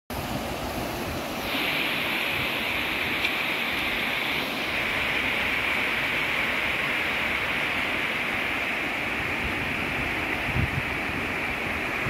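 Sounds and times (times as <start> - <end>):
river rushing over rocks: 0.1 - 12.0.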